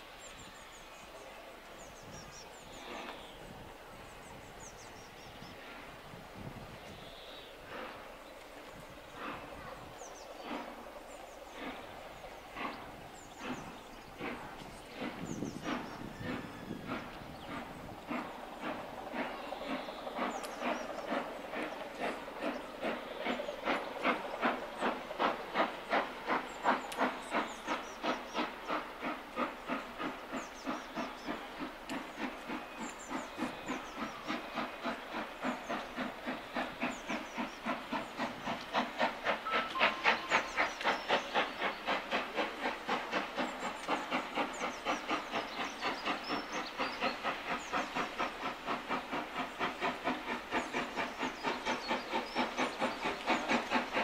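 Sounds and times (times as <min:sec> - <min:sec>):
hissing steam: 0:00.0 - 0:54.0
steam locomotive chuffing: 0:00.0 - 0:54.0.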